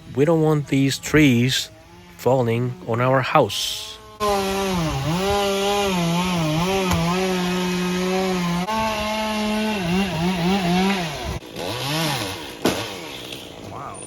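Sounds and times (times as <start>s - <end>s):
chainsaw cutting wood: 0.1s - 13.8s.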